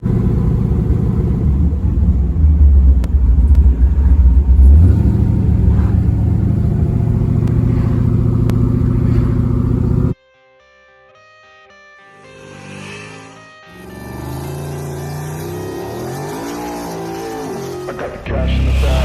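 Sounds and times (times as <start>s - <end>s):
race car engine running: 0.0s - 10.2s, 13.8s - 19.0s.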